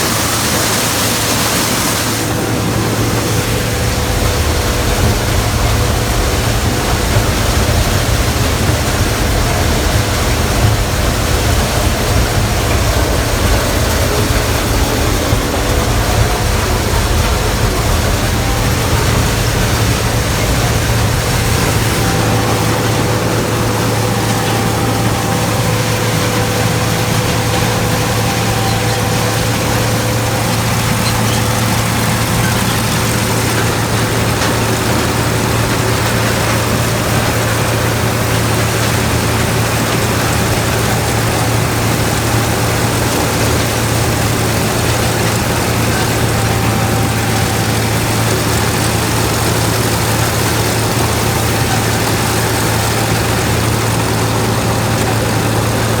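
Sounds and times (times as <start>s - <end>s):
diesel engine droning: 0.0s - 56.0s
thin steady whine: 0.0s - 56.0s.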